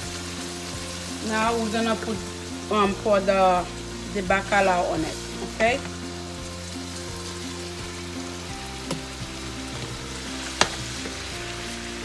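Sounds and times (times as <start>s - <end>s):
peppers sizzling in a frying pan: 0.0s - 12.0s.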